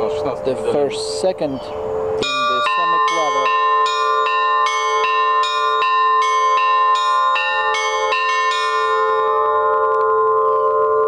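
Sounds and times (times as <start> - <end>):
church bells ringing: 0.0 - 11.0
lower bells sounding: 0.0 - 11.0.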